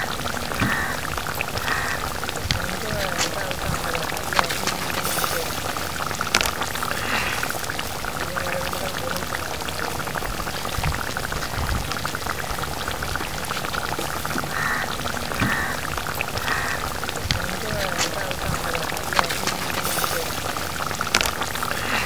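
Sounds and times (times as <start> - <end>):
curry bubbling and crackling: 0.0 - 22.0.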